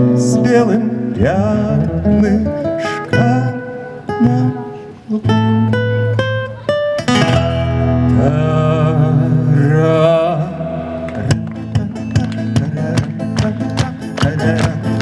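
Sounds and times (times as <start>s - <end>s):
acoustic guitar plucked notes: 0.0s - 15.0s.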